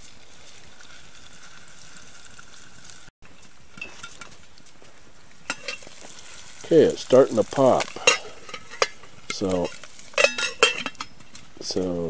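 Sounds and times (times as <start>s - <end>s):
butter sizzling in a pot: 0.0s - 12.0s.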